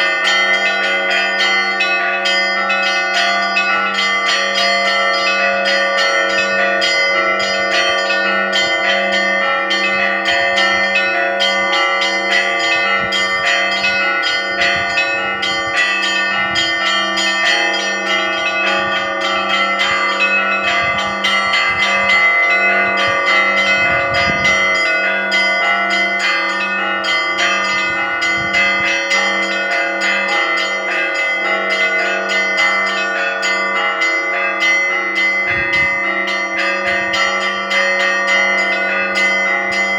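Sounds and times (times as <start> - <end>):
high bells chiming rapidly: 0.0 - 39.9
low bell struck steadily: 0.0 - 39.9.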